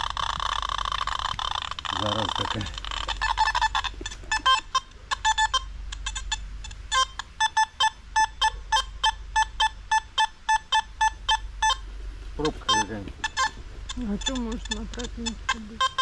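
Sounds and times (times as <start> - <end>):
metal detector beeping: 0.0 - 11.8, 12.4 - 16.0.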